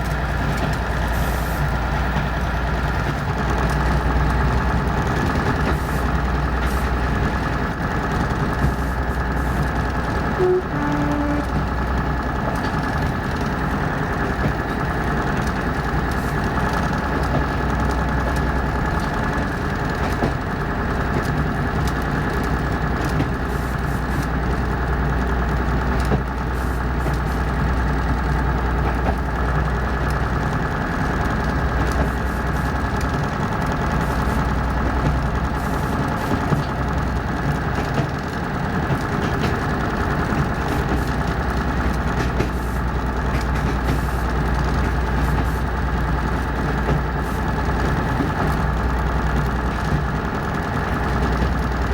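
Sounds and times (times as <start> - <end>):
diesel locomotive engine idling: 0.0 - 51.9.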